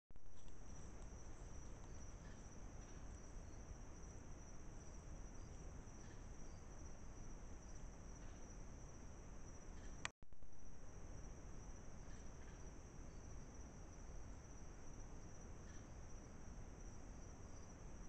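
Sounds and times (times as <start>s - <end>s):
insects trilling: 0.4s - 10.1s, 10.7s - 18.0s.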